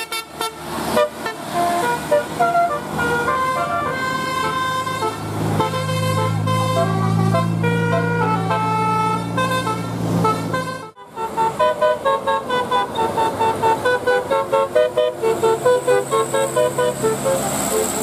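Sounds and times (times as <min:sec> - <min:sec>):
bus engine running: 0:00.0 - 0:18.0
bus musical horn melody: 0:00.0 - 0:18.0.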